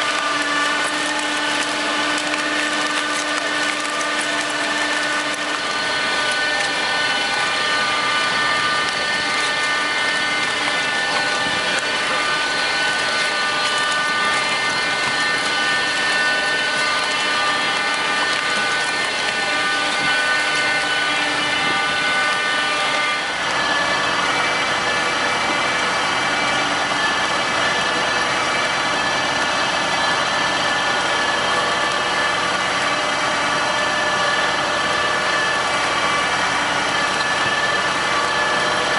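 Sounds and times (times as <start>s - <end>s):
harvesting machine humming: 0.0s - 38.9s.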